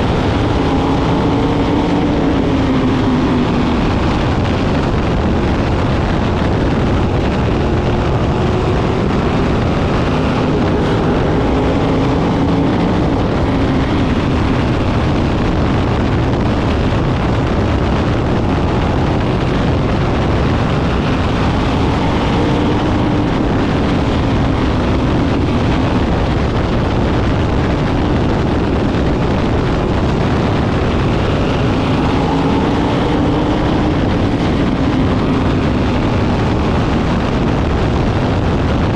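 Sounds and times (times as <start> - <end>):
racing car engines roaring: 0.0 - 38.9.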